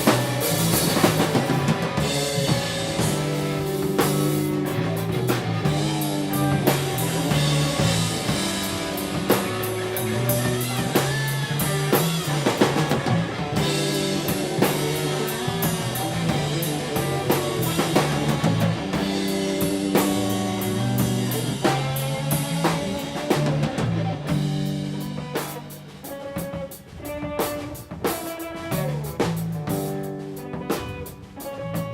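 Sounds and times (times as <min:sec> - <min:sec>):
drum and cymbal hits: 0:00.0 - 0:31.9
rock band playing: 0:00.0 - 0:31.9.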